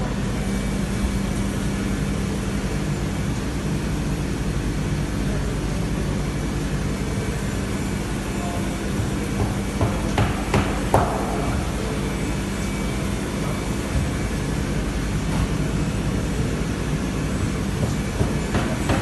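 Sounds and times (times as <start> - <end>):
machining centre humming and whirring: 0.0 - 19.0.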